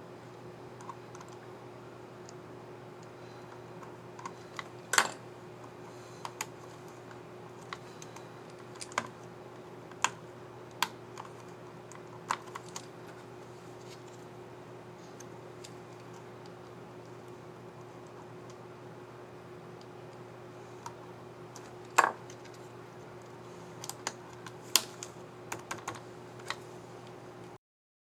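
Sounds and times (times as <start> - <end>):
faint hum: 0.0 - 27.6.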